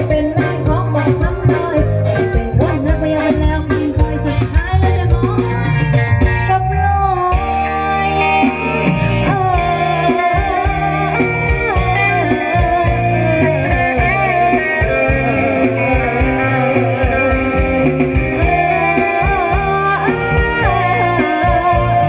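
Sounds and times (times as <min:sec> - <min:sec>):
bass guitar: 0:00.0 - 0:22.0
electric guitar: 0:00.0 - 0:22.0
woman singing: 0:00.0 - 0:22.0.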